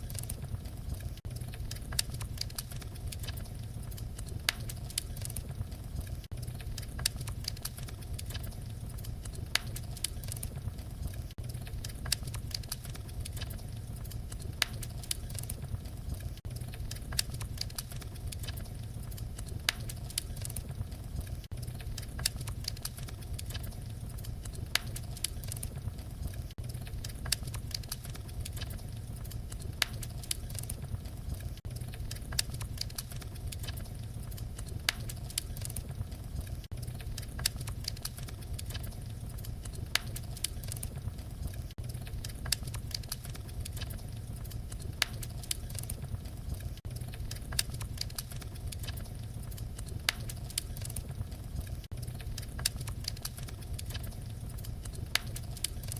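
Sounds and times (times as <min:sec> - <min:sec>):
fireplace fire crackling: 0:00.0 - 0:55.9.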